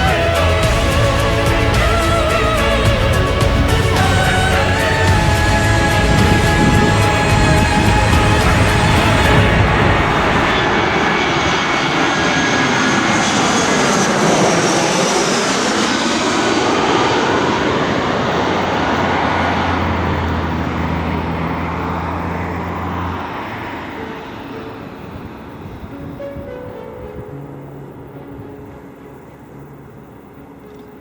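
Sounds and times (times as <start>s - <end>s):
jet airliner flying overhead: 0.0s - 31.0s.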